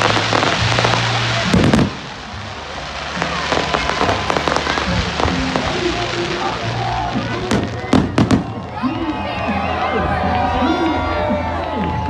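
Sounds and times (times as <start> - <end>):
fireworks crackling and popping: 0.0 - 9.7
music playing: 0.0 - 12.0.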